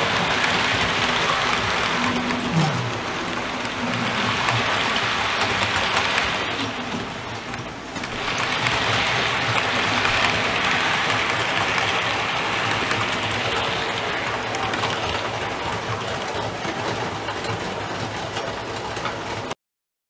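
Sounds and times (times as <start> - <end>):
model train wheels rumbling on rails: 0.0 - 19.6.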